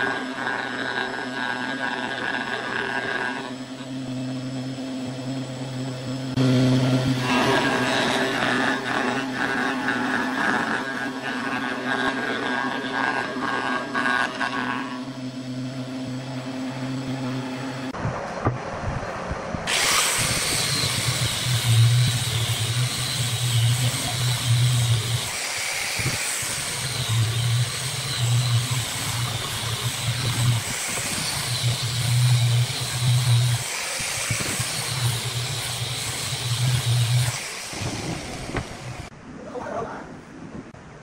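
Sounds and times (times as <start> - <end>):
angle grinder sanding wood: 0.0 - 18.0, 19.7 - 39.1.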